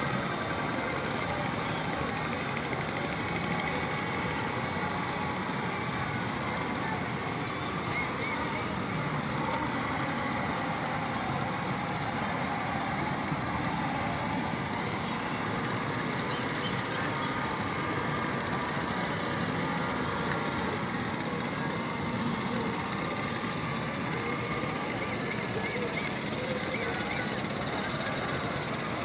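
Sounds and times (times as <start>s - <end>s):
large crowd din: 0.0s - 29.0s
motorboat engines: 0.0s - 29.0s.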